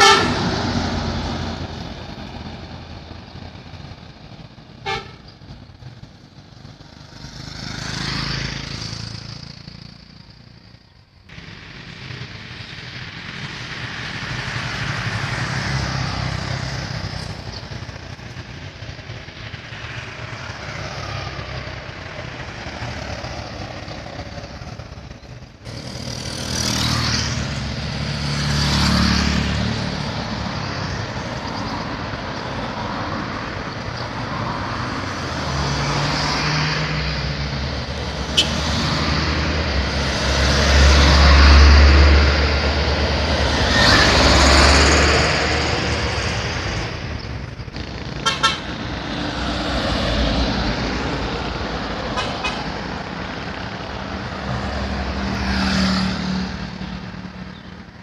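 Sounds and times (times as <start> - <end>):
vehicles passing by: 0.0 - 58.0.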